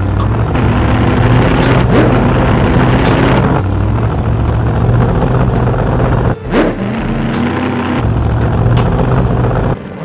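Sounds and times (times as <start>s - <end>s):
vehicle engine low drone: 0.0s - 10.0s.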